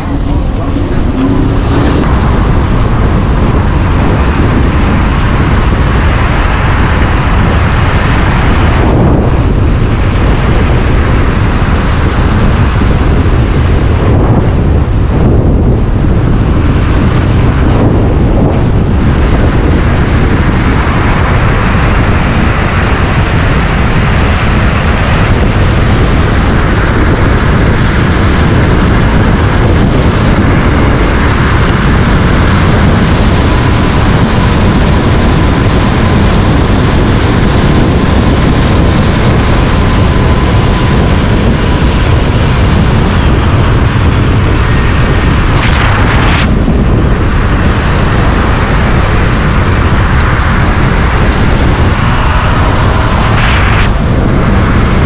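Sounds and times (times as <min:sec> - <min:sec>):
tyre and road noise: 0:00.0 - 0:55.0
wind buffeting microphone: 0:00.0 - 0:55.0.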